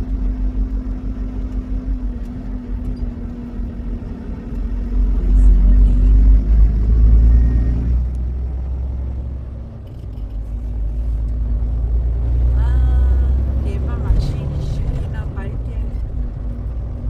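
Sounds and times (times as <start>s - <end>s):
road rumble: 0.0s - 17.0s
truck engine: 0.0s - 17.0s.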